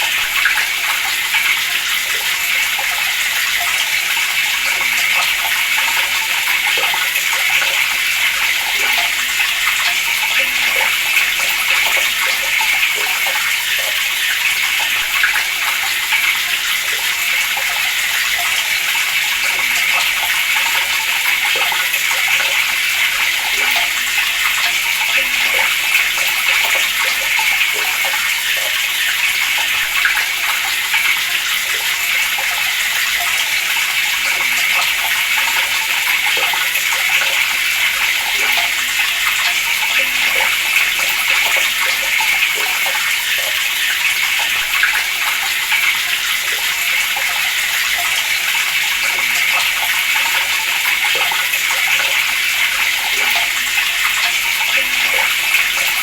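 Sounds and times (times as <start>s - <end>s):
tap water splashing into basin: 0.0s - 56.0s.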